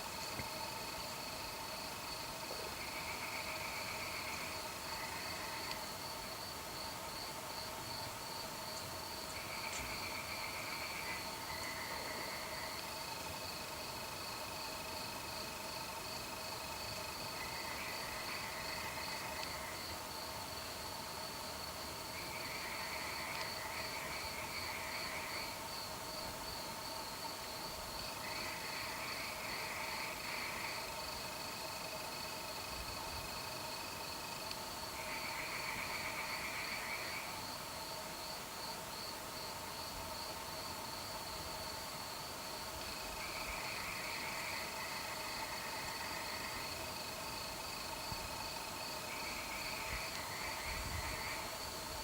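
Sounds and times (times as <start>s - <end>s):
crickets trilling: 0.0s - 52.0s.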